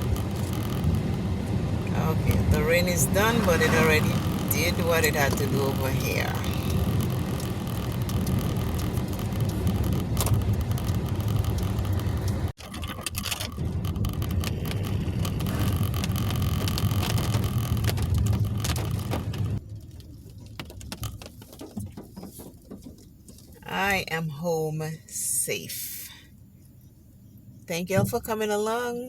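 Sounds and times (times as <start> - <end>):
road and engine rumble in car: 0.0 - 29.0.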